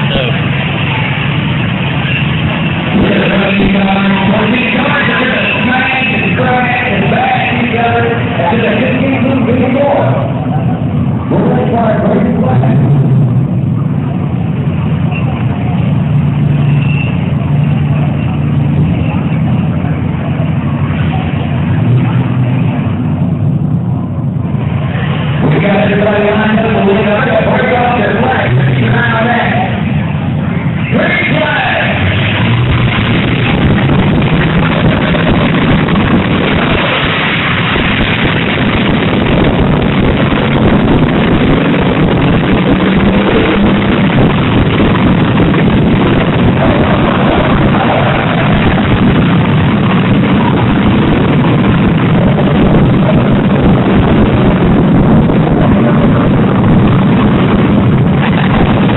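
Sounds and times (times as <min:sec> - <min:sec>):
car engines droning: 0:00.0 - 0:58.9.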